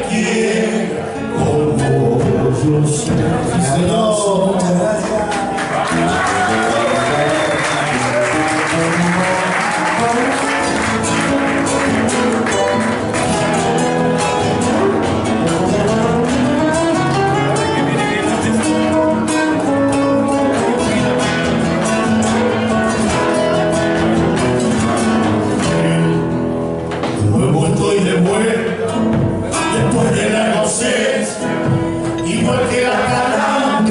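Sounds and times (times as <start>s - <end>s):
folk music: 0.0s - 33.9s
rapidly strummed guitar: 0.5s - 33.9s.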